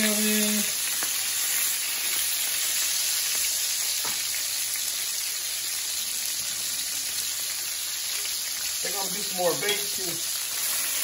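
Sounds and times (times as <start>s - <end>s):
steaks sizzling in oil: 0.0s - 11.0s.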